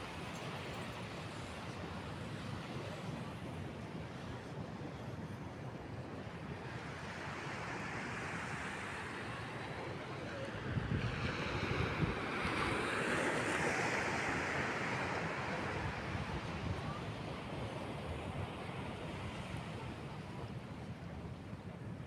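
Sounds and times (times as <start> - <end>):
ocean surf washing on beach: 0.0 - 22.0.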